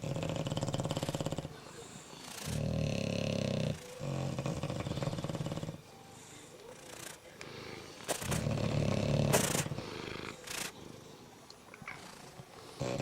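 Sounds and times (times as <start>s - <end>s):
dogs snoring: 0.0s - 13.0s.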